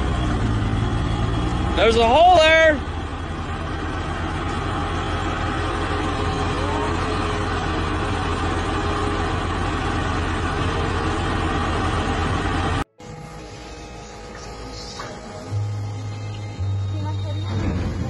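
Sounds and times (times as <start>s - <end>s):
loader engine running: 0.0s - 18.0s.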